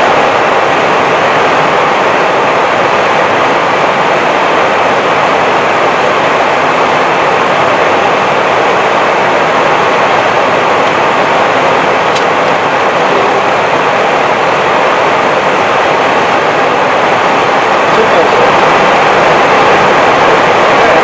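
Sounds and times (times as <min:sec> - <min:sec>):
cockpit airflow and engine noise: 0:00.0 - 0:21.0.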